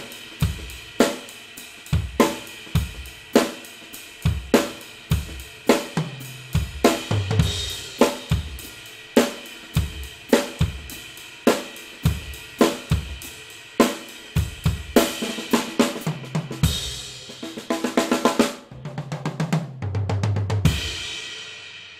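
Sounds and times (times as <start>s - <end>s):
drum kit groove: 0.0s - 21.9s.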